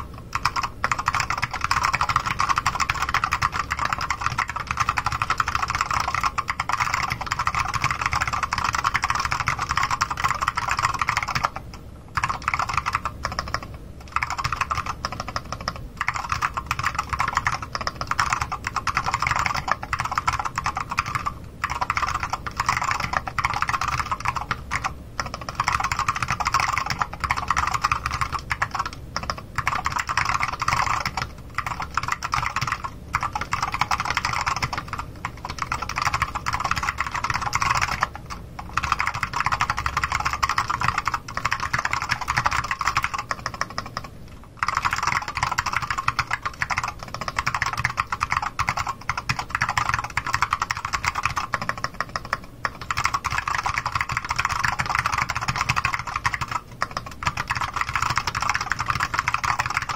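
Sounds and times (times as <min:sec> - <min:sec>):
fast typing on mechanical keyboard: 0:00.0 - 0:59.9.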